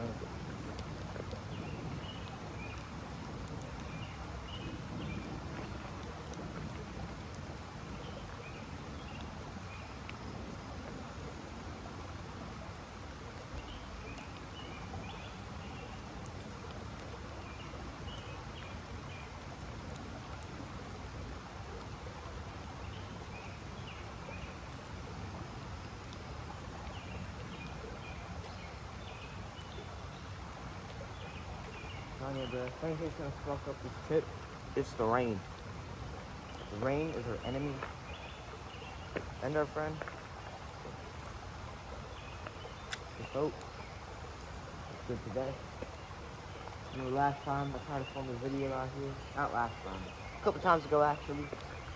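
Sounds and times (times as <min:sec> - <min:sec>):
outdoor background noise: 0:00.0 - 0:51.9.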